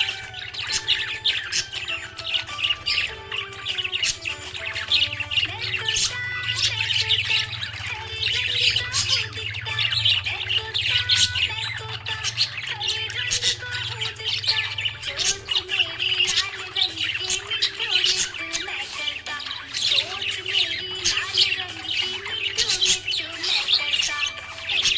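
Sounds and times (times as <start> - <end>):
budgerigars chirping and squawking: 0.0 - 24.9.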